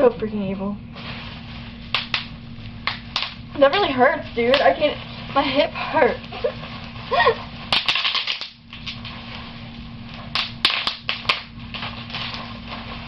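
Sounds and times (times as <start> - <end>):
bubble wrap popping: 0.9 - 13.0.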